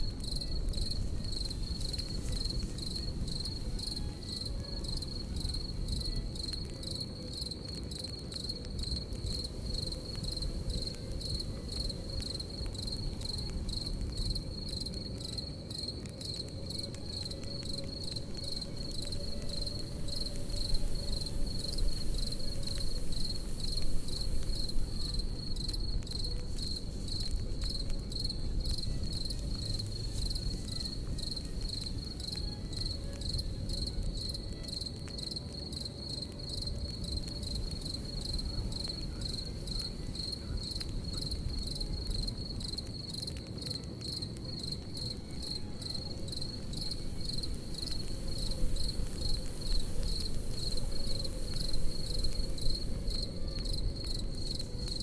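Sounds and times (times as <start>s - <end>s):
campfire rumbling and crackling: 0.0s - 55.0s
crickets chirping: 0.0s - 55.0s.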